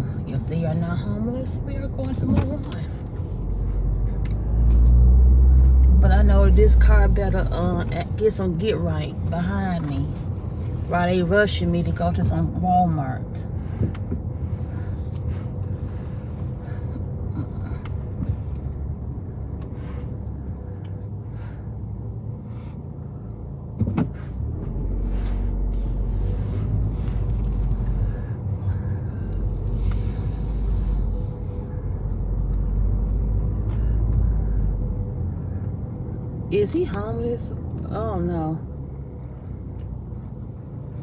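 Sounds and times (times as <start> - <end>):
car engine and tyre rumble: 0.0 - 41.0.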